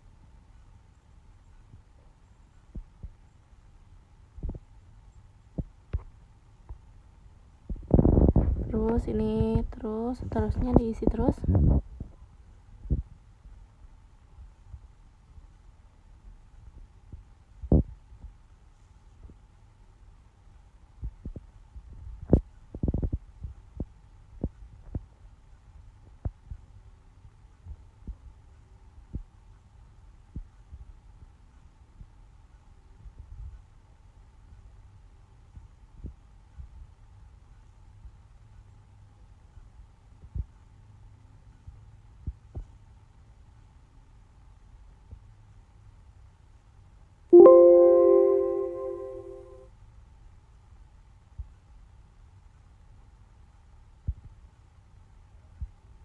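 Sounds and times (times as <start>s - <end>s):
faint steady hum: 0.0s - 49.7s.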